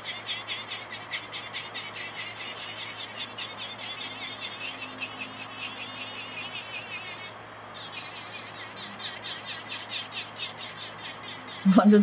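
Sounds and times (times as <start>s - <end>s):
electric nail drill grinding: 0.0s - 12.0s.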